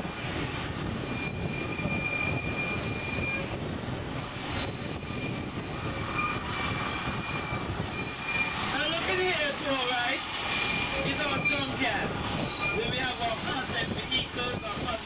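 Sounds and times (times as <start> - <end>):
high-pitched wheel squeals: 0.0 - 15.0
train wheels rumbling on track: 0.0 - 15.0.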